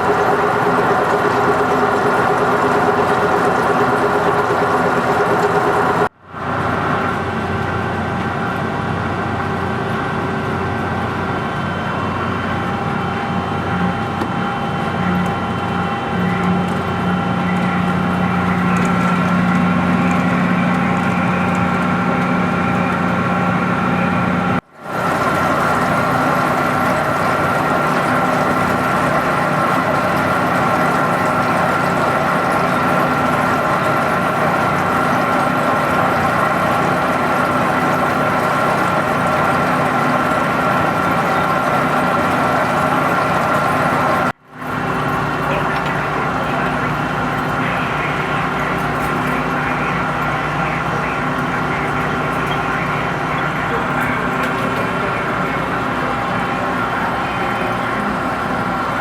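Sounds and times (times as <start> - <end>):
metal-turning lathe running: 0.0 - 59.0.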